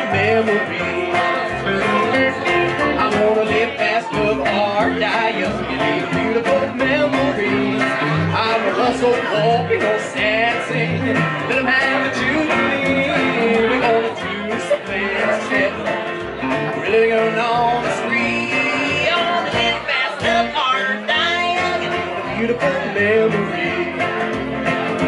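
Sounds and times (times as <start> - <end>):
acoustic guitar: 0.0 - 25.0
electric guitar: 0.0 - 25.0
plucked upright double bass: 0.0 - 25.0.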